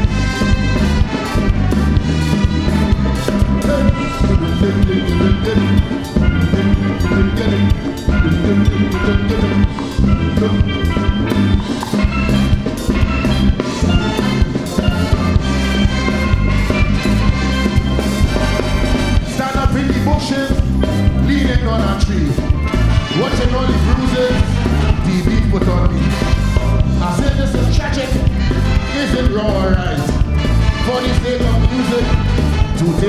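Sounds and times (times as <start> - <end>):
calypso band playing: 0.0 - 33.0
steelpan melody: 0.0 - 33.0.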